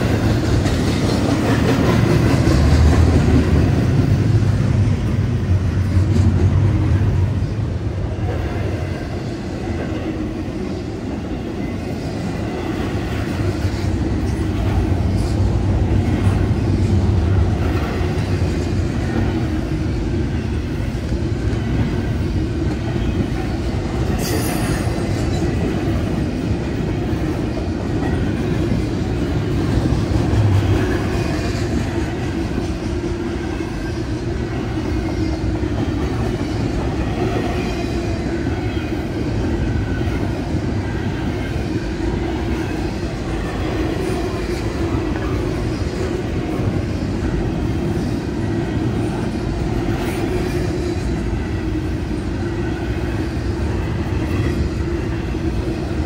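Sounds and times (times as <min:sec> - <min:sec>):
freight train wheels clattering on rails: 0:00.0 - 0:56.0.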